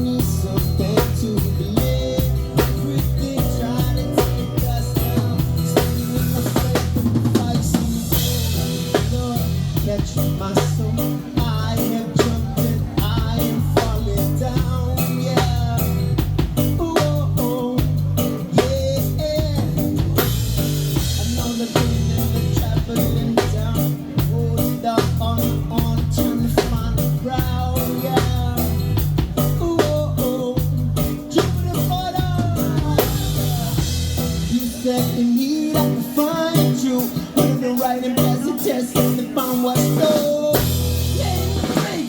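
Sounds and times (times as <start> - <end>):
live reggae rock band: 0.0 - 42.0
sliding lead guitar line: 0.0 - 42.0.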